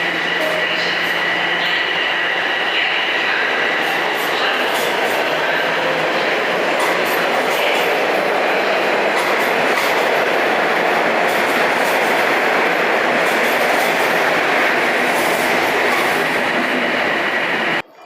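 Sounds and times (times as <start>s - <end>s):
subway train wheels rushing on rail: 0.0s - 17.9s.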